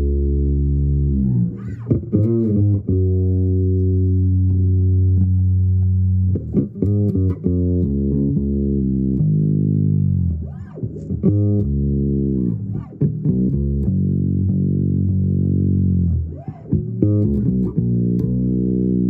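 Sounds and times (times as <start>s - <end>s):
bass guitar improvised line: 0.0s - 19.0s.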